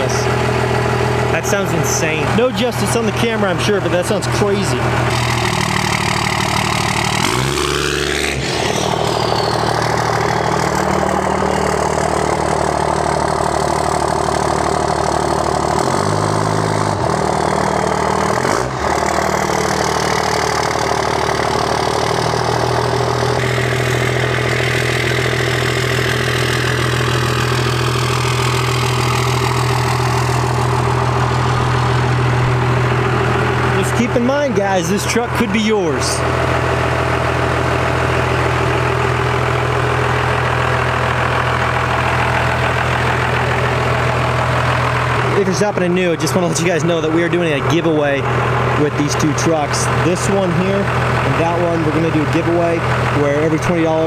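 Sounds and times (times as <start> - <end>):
diesel truck engine: 0.0 - 54.0.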